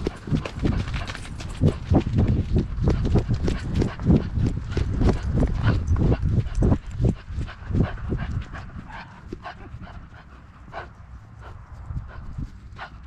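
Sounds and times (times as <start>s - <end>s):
dog breathing: 0.0s - 13.0s.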